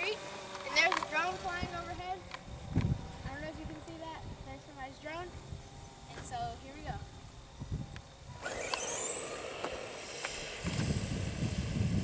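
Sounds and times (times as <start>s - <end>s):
electric motor whine rising: 0.0s - 12.0s.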